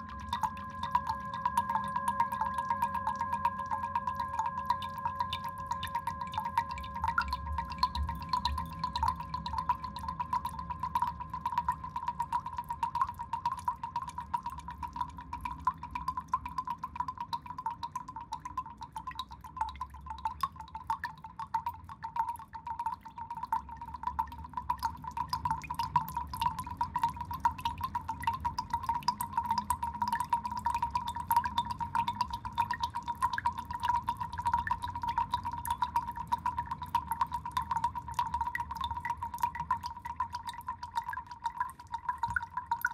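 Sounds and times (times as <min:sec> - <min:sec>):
water dripping: 0:00.0 - 0:42.9.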